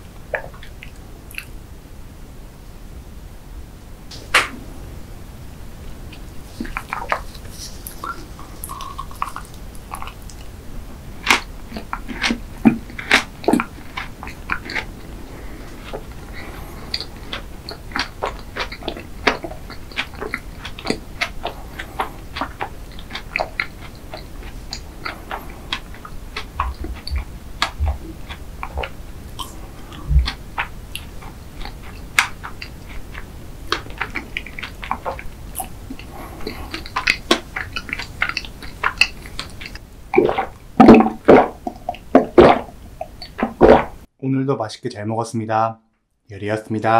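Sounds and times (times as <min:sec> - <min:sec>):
chewing with wet clicks and crunches: 0:00.3 - 0:01.6, 0:06.1 - 0:44.1.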